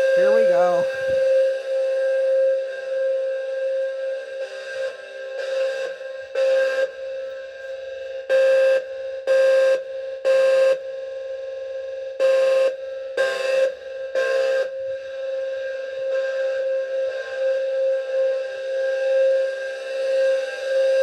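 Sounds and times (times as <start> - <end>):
fire alarm horn blasts: 0.0 - 2.6, 4.3 - 7.6, 8.2 - 11.4, 12.2 - 21.0
fire alarm horn steady tone: 0.0 - 21.0.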